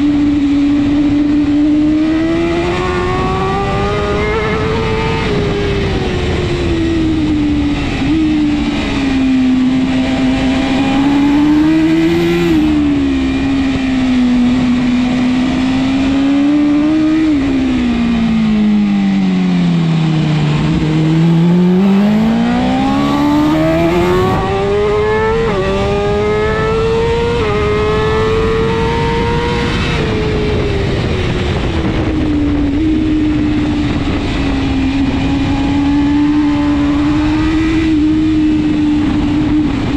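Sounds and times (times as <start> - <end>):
motorcycle engine revving through gears: 0.0 - 39.9
wind noise: 0.0 - 39.9.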